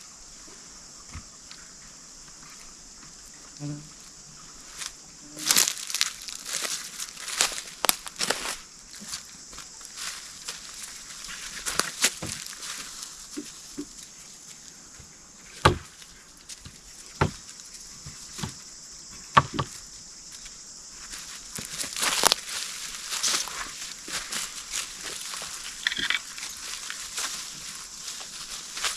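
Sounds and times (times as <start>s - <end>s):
steady high hiss: 0.0s - 28.9s.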